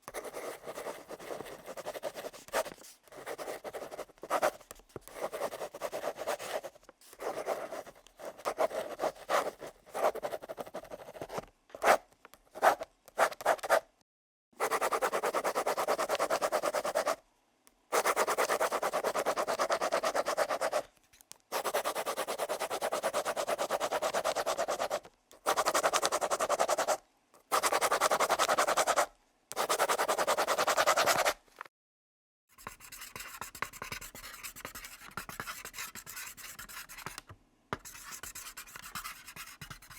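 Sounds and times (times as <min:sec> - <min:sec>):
pencil writing on paper: 0:00.1 - 0:13.8, 0:17.9 - 0:20.9, 0:21.5 - 0:31.4, 0:32.5 - 0:37.2, 0:37.8 - 0:39.9.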